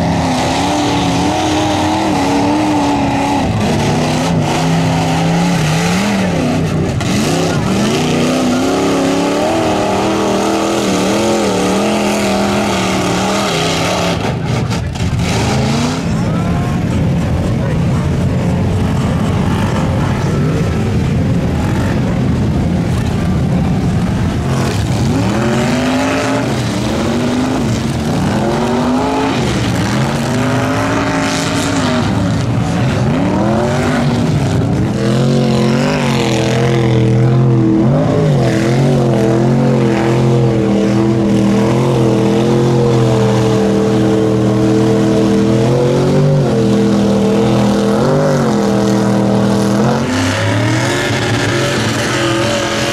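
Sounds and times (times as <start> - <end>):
truck engine revving hard: 0.0 - 52.9.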